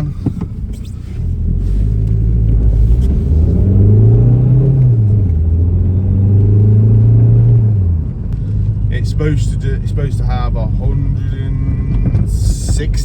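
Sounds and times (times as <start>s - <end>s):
diesel engine accelerating: 0.0s - 13.0s.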